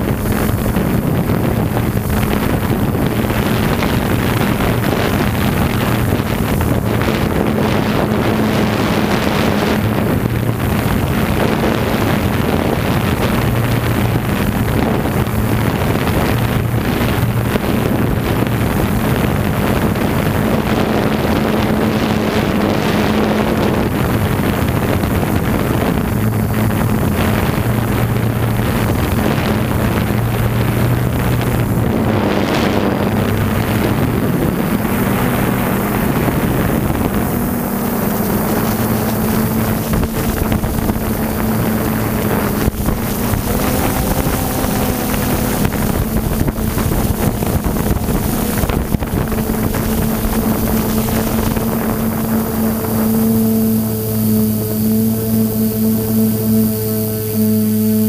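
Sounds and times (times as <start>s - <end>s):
drone motors humming: 0.0s - 58.0s
wind rushing over microphone: 0.0s - 58.0s.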